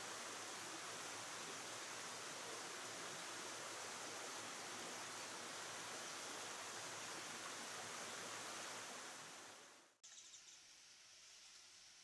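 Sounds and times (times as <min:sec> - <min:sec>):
stream flowing: 0:00.0 - 0:09.8.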